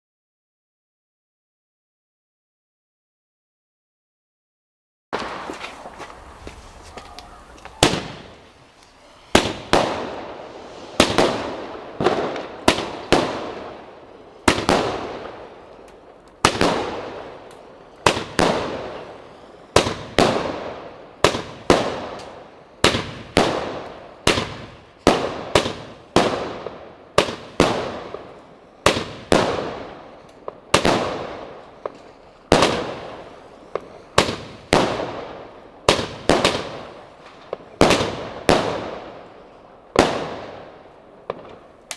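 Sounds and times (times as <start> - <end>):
firework bangs with crackling: 5.1 - 41.9.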